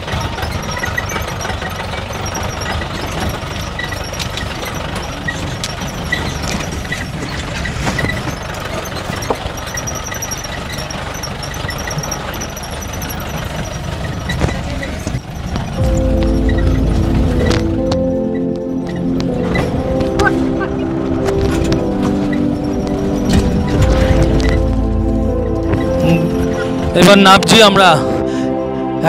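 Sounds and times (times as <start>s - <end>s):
vehicle knocking over ruts: 0.0s - 27.7s
body and suspension rattling: 0.0s - 28.0s
engine and road rumble: 0.0s - 29.0s.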